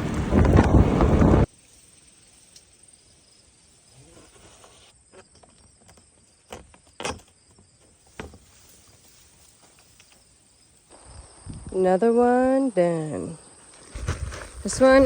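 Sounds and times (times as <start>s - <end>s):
faint insects chirring: 1.4s - 15.0s.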